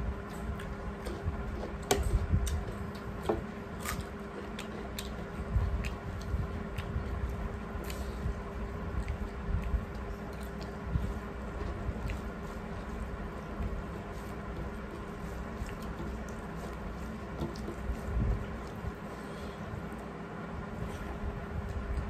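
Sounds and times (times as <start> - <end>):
steady low hum: 0.0 - 22.0
chewing: 0.2 - 20.1.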